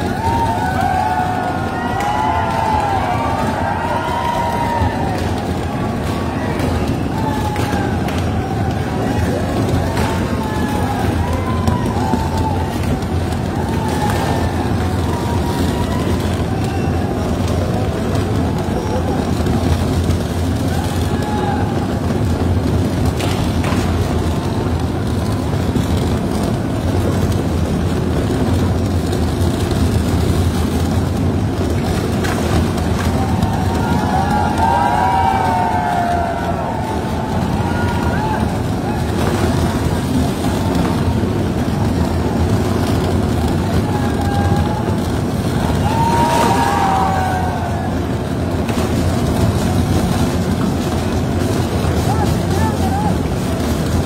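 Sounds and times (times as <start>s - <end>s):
heavy machinery rumbling: 0.0s - 54.0s.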